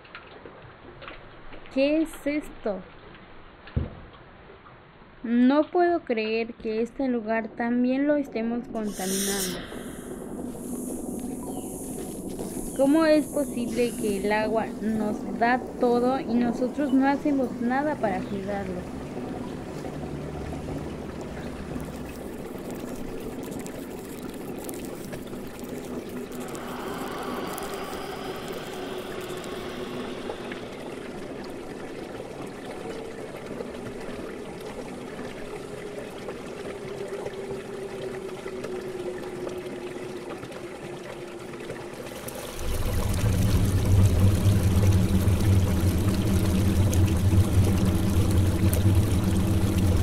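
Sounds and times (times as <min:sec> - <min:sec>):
water trickling in a stream: 0:05.4 - 0:50.0.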